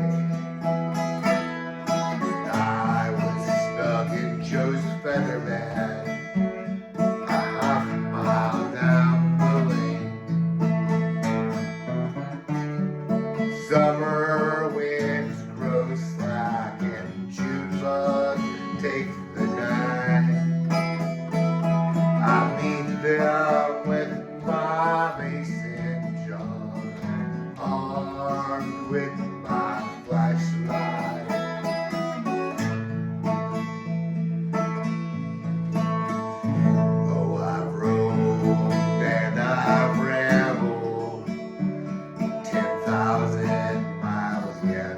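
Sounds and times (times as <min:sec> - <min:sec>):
acoustic guitar band music: 0:00.0 - 0:44.9.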